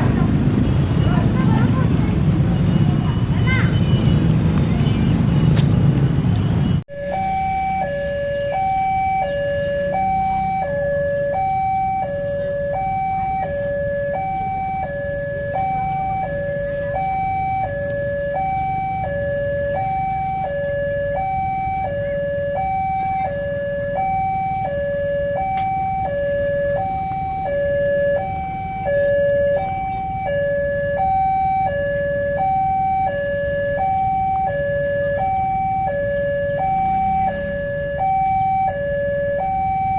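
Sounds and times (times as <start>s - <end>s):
electronic two-tone warning alarm: 6.7s - 39.9s.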